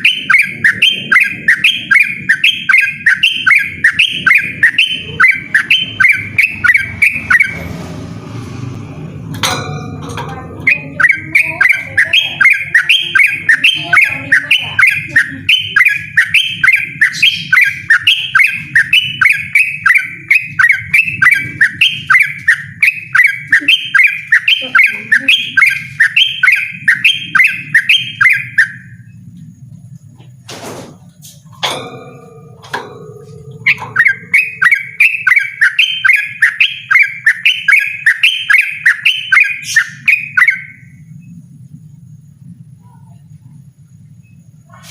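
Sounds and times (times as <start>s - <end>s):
bird chirping song: 0.0s - 8.6s, 9.3s - 30.4s, 31.0s - 44.9s.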